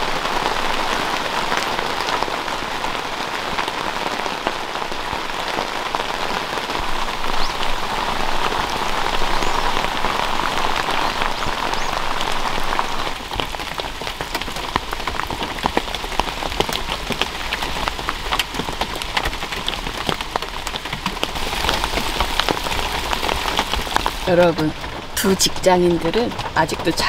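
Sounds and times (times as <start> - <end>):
raindrop hits: 0.0 - 27.0
steady rain falling: 0.0 - 27.0.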